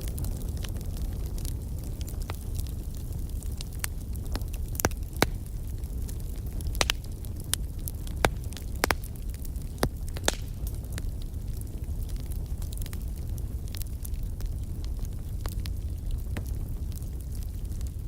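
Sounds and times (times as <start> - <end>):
fire crackles and pops: 0.0 - 18.0
wood fire roaring: 0.0 - 18.0.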